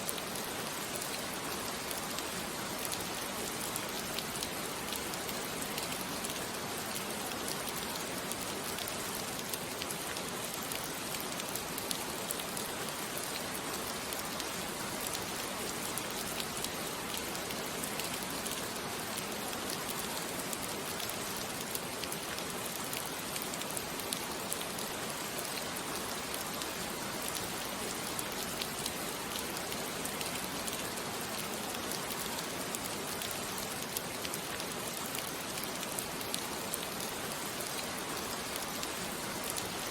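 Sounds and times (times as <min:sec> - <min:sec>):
rain drops pattering on a surface: 0:00.0 - 0:39.9.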